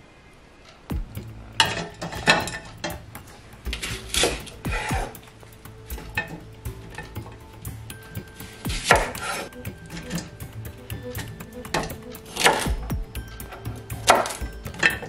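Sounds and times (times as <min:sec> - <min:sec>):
bones clattering in metal pot: 0:01.6 - 0:15.0.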